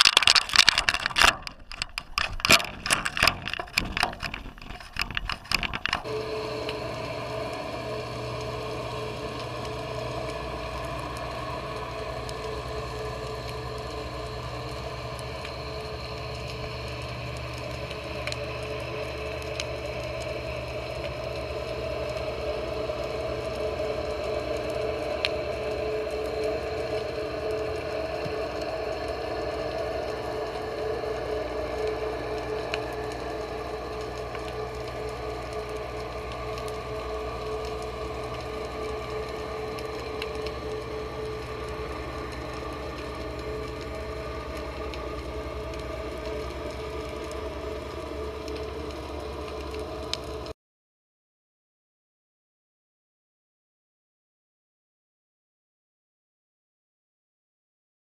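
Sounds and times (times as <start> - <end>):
muffled underwater hum: 0.0 - 50.5.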